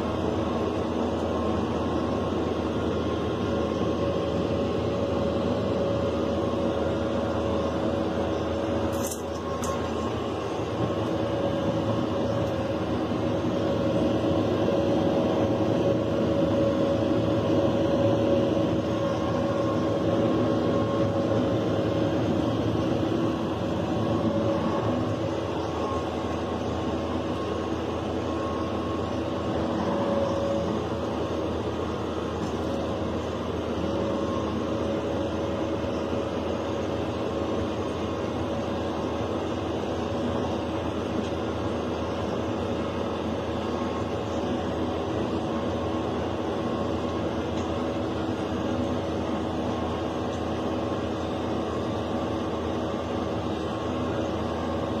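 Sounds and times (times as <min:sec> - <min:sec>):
machine drone: 0:00.0 - 0:55.0
steady machine whine: 0:00.0 - 0:55.0.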